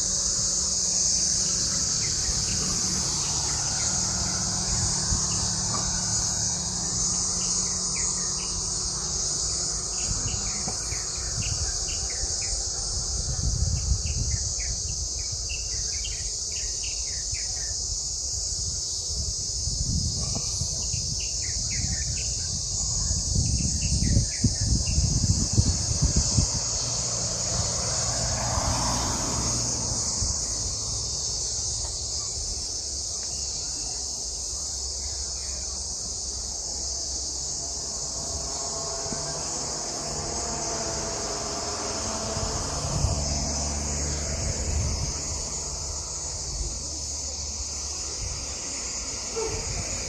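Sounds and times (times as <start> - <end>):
cicadas droning: 0.0 - 50.0.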